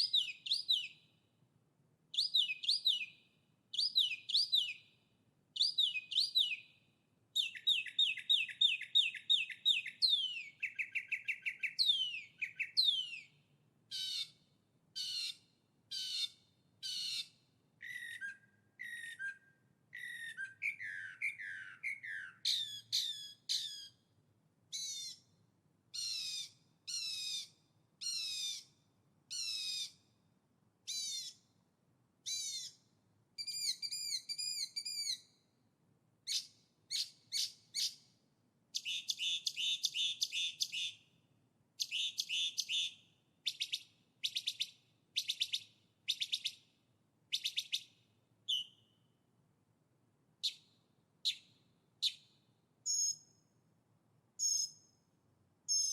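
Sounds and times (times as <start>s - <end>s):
songbird singing: 0.0s - 1.3s, 2.1s - 24.1s, 24.7s - 30.2s, 30.9s - 31.6s, 32.2s - 35.5s, 36.3s - 38.1s, 38.8s - 41.2s, 41.8s - 49.2s, 50.4s - 53.6s, 54.4s - 55.1s, 55.7s - 55.9s.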